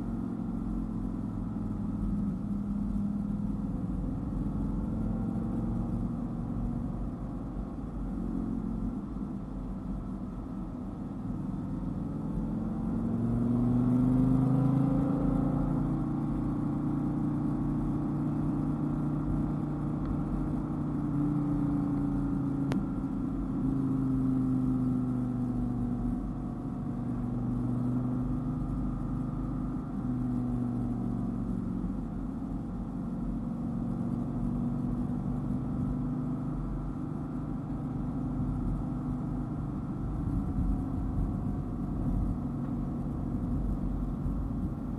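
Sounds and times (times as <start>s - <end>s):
car engine running under load: 0.0s - 44.9s.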